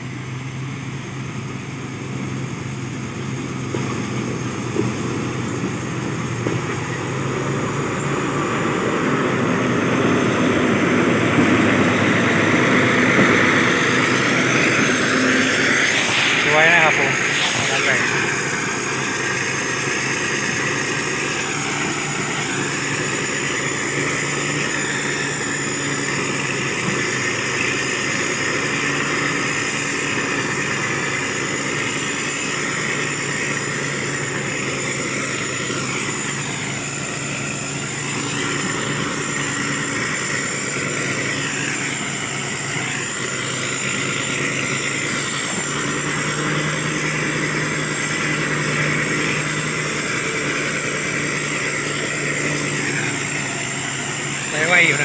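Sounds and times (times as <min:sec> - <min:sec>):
diesel engine running steadily: 0:00.0 - 0:55.0
wavering whine: 0:00.0 - 0:55.0.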